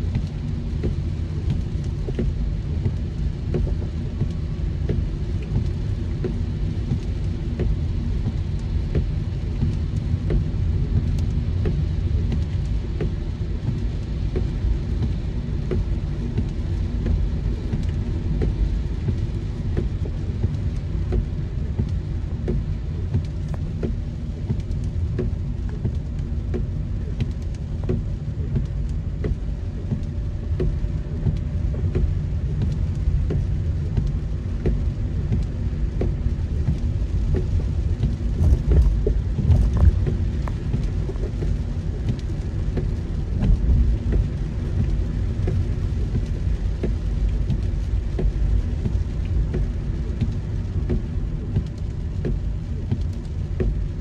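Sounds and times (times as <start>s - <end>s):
rain hiss: 0.0s - 54.0s
raindrops tapping on car: 0.0s - 54.0s
road and engine rumble: 0.0s - 54.0s.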